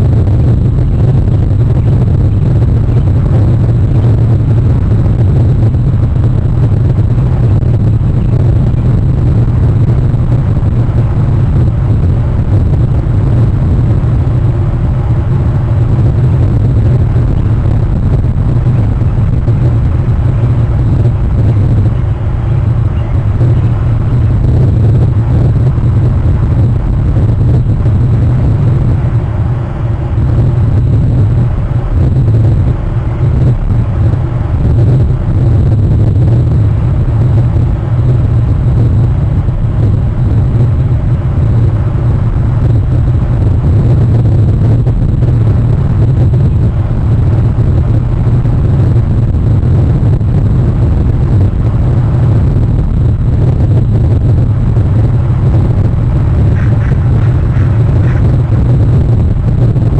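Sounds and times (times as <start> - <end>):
loud low rumbling: 0.0 - 59.9.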